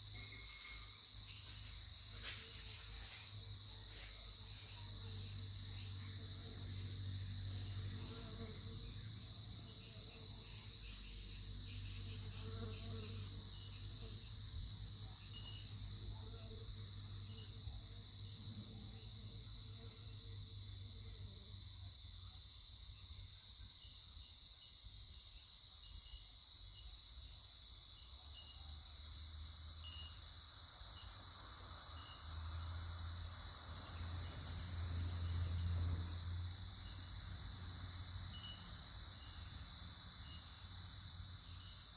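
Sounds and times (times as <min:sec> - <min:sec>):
crickets chorus: 0:00.0 - 0:41.9.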